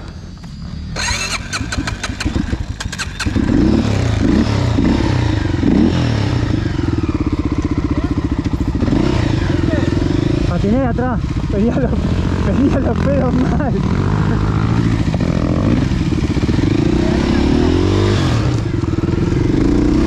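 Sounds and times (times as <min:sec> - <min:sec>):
dirt bike engine revving: 0:00.1 - 0:20.0.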